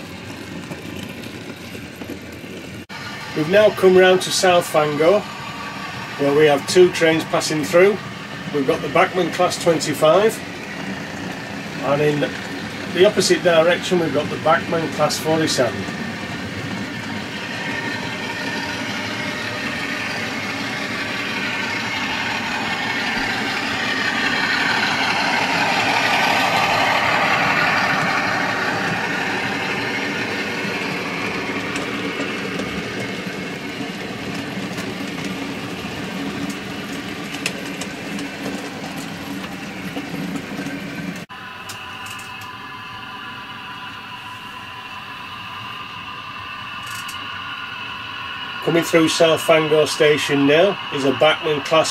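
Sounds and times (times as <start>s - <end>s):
wheels clicking over rail joints: 0.0s - 42.5s
model trains rumbling and humming: 0.0s - 51.9s.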